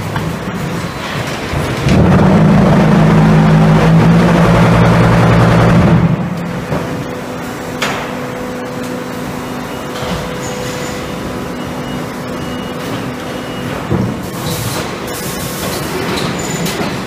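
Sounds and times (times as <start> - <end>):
machinery din: 0.7 - 17.0.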